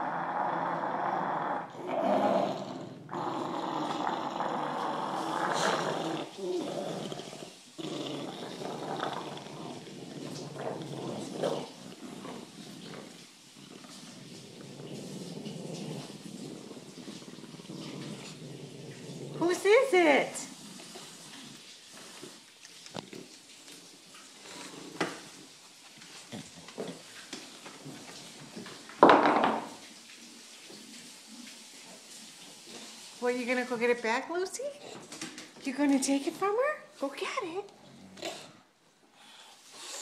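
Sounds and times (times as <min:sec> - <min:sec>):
dogs growling in play: 0:00.0 - 0:29.8, 0:37.6 - 0:40.0.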